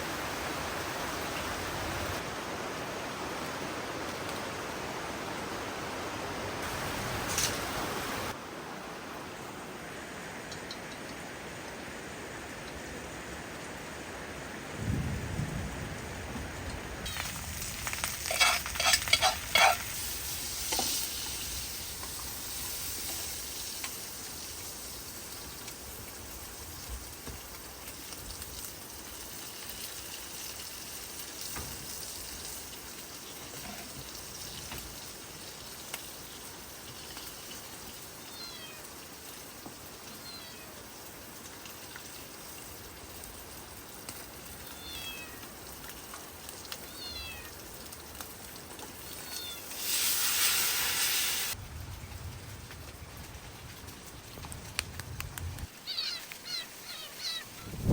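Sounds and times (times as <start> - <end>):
rain hissing: 0.0 - 57.9.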